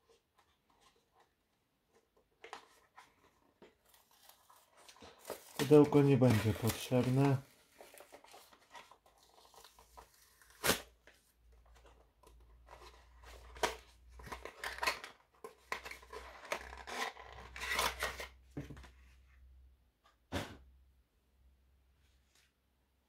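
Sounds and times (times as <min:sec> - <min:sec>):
cardboard packaging rustling: 0:00.0 - 0:18.8.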